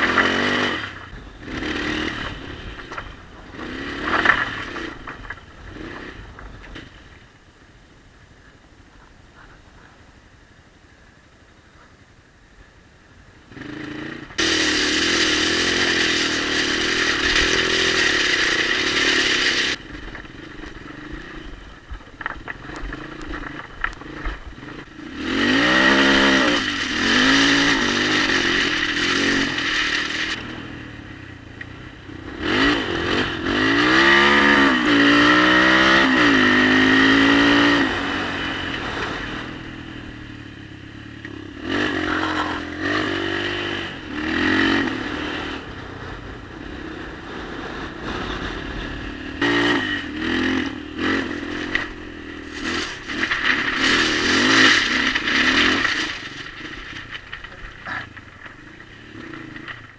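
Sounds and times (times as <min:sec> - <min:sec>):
motorcycle engine revving: 0:00.0 - 0:07.1, 0:13.4 - 0:59.9.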